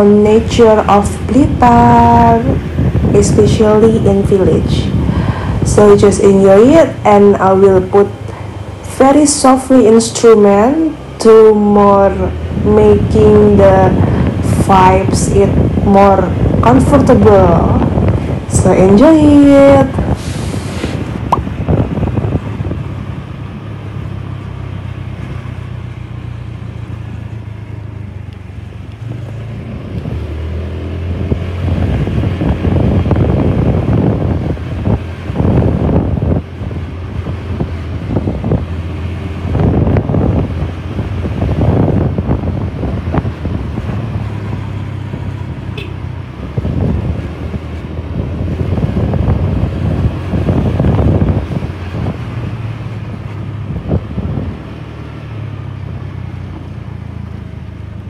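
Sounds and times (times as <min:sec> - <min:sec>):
steady low rumble: 0:00.0 - 0:58.0
wind buffeting microphone: 0:00.0 - 0:58.0.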